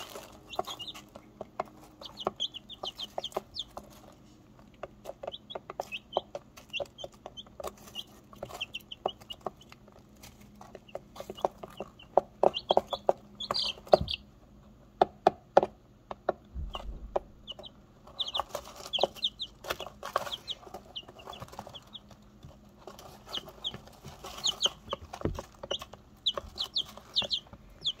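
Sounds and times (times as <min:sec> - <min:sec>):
chicks pecking in shavings: 0:00.0 - 0:28.0
chicks peeping: 0:00.0 - 0:28.0.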